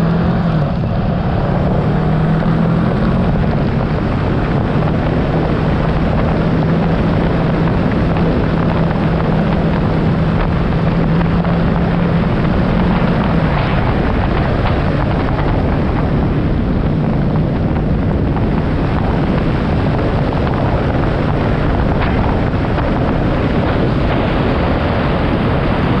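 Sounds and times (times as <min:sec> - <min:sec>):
motorcycle engine hum: 0:00.0 - 0:26.0
wind rushing over microphone: 0:00.0 - 0:26.0.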